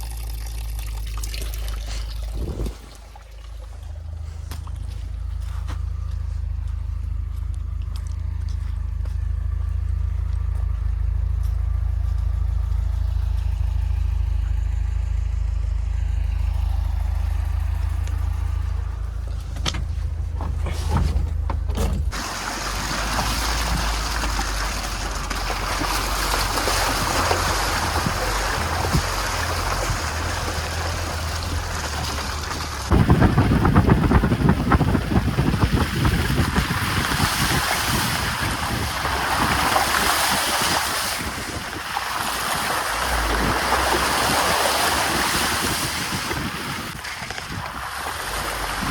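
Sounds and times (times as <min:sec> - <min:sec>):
vehicle engine droning: 0:00.0 - 0:48.9.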